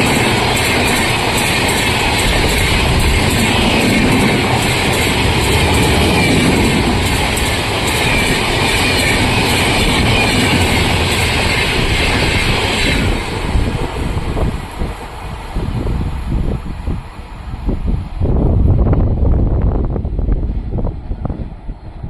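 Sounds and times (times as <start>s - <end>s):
express train passing at high speed: 0.0s - 22.0s.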